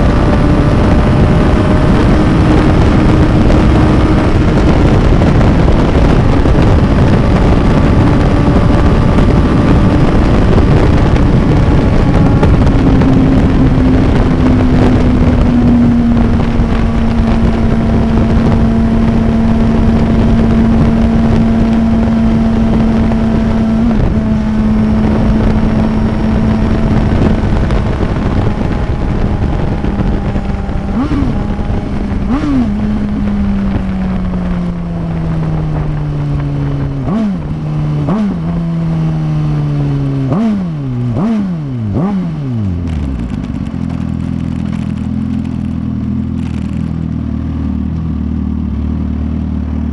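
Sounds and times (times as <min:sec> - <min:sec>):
wind rush: 0:00.0 - 0:47.4
motorcycle engine cruising: 0:00.0 - 0:49.9.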